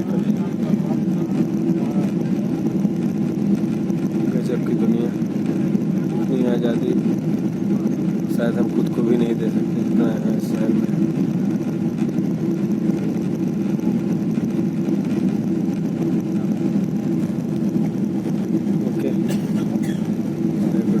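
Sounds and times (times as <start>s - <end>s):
jet engines droning in cabin: 0.0s - 21.0s.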